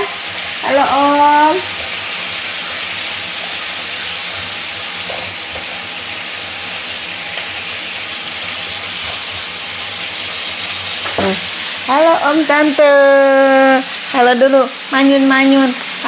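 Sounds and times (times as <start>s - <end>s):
meat sizzling in a wok: 0.0s - 16.0s
spatula stir-frying: 0.0s - 16.0s.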